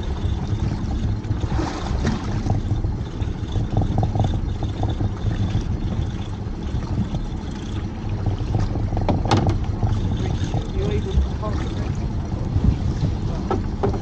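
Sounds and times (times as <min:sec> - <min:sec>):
water washing against boat: 0:00.0 - 0:14.0
wind rumbling on microphone: 0:00.0 - 0:14.0.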